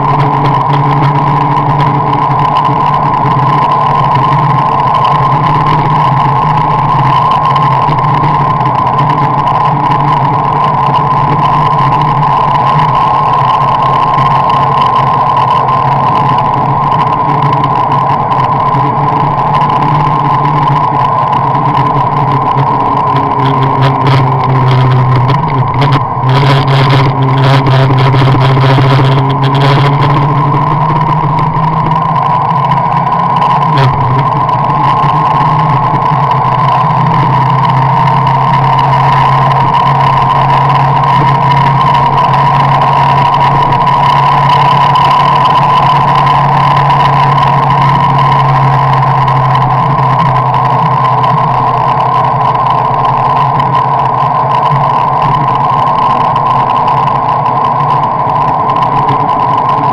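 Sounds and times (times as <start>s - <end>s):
car engine and road noise drone: 0.0s - 59.9s.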